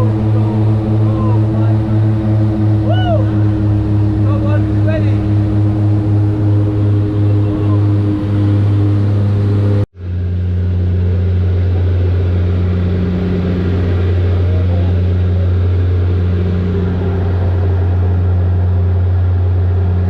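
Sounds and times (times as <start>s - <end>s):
aircraft engine droning: 0.0s - 20.0s.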